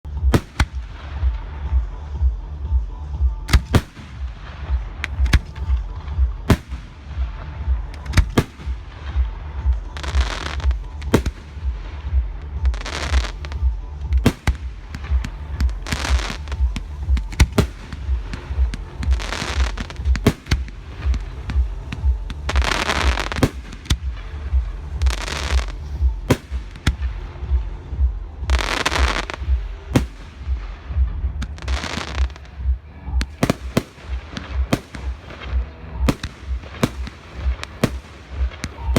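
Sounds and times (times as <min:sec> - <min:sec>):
fireworks crackling and hissing: 0:00.0 - 0:38.9
music with low beat: 0:00.0 - 0:38.9
fireworks bangs: 0:03.5 - 0:38.9.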